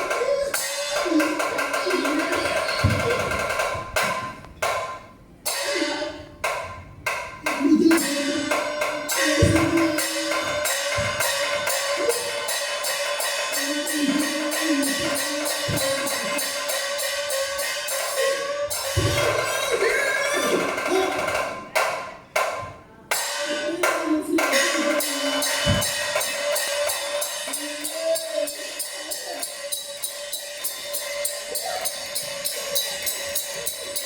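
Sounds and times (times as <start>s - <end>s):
opera percussion strikes: 0.0s - 34.0s.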